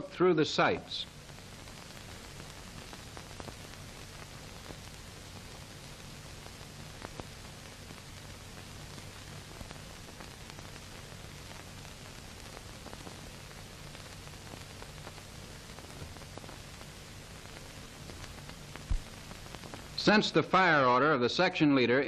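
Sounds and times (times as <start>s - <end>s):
faint crackles: 0.0s - 21.1s
film soundtrack hiss: 0.0s - 22.0s.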